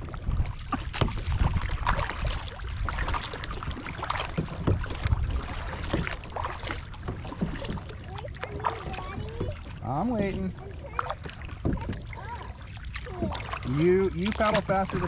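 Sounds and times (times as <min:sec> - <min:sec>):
paddle splashes and drips: 0:00.0 - 0:15.0
water lapping against kayak hull: 0:00.0 - 0:15.0.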